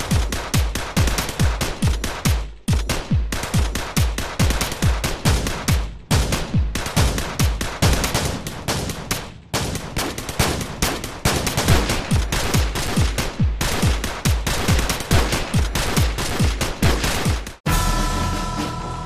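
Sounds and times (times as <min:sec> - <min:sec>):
automatic gunfire: 0:00.0 - 0:17.6.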